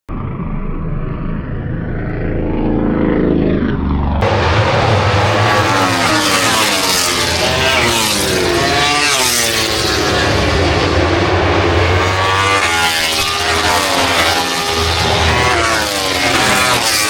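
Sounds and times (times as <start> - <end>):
racing motorcycles passing: 2.1 - 17.0.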